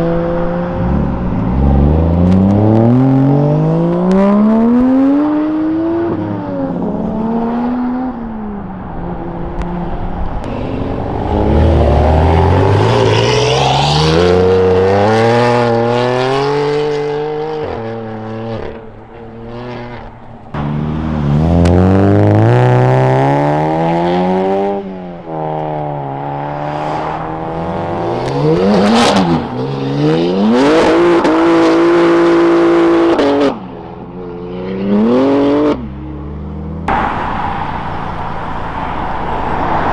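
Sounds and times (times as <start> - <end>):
car engines revving and accelerating: 0.0 - 39.9.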